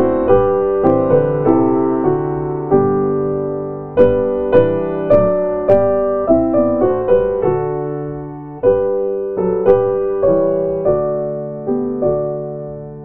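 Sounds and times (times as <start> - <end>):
piano playing gentle chords: 0.0 - 13.0.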